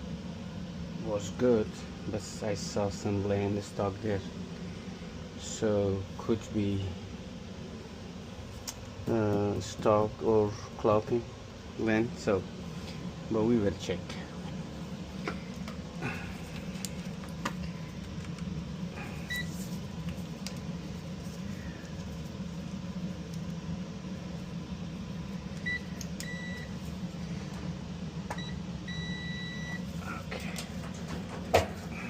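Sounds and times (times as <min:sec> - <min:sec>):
clothes dryer humming: 0:00.0 - 0:32.0.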